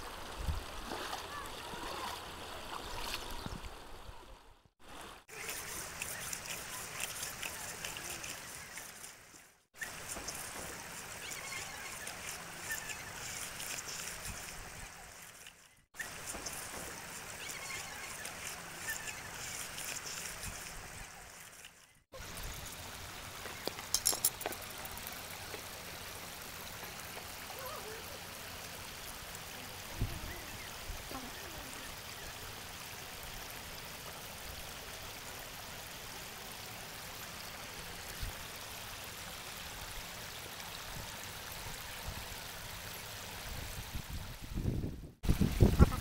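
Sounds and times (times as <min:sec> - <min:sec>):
stream running over rocks: 0:00.0 - 0:46.0.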